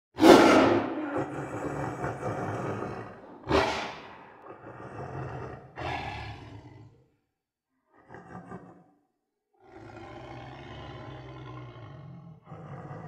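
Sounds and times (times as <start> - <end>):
tiger roaring: 0.2 - 7.1, 7.9 - 8.9, 9.6 - 13.0.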